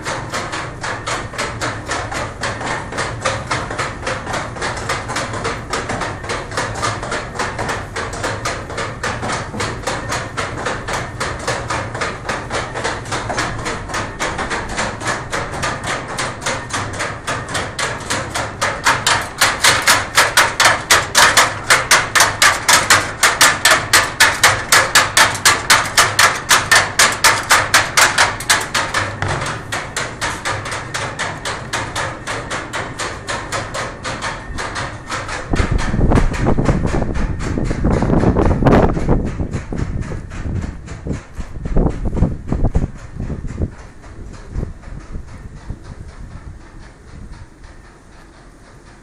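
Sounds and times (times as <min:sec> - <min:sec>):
windmill machinery knocking: 0:00.0 - 0:49.0.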